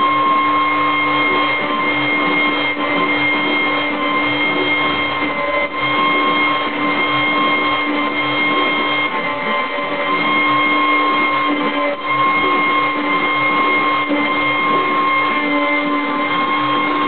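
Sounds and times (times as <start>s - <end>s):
bit milling wood: 0.0s - 17.0s
router motor whine: 0.0s - 17.0s.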